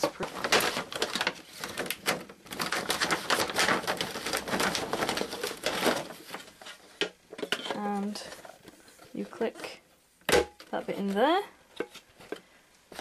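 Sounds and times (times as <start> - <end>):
plastic packaging crinkling: 0.0 - 9.6, 10.4 - 13.0.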